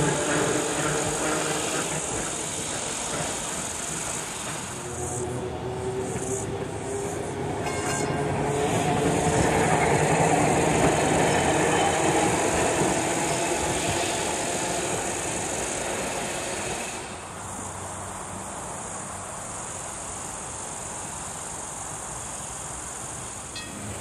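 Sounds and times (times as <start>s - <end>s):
electric tram running on rails: 0.0s - 24.0s
insect chorus: 0.0s - 24.0s.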